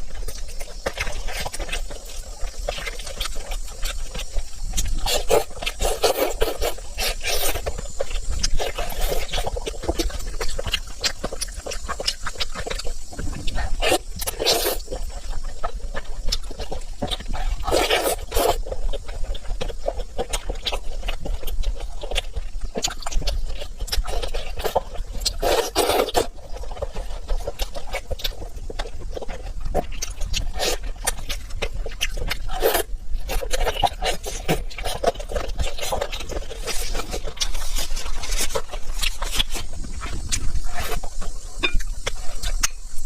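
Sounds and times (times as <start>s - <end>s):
slurping: 0.0s - 43.0s
wet chewing and mouth smacking: 0.0s - 43.0s.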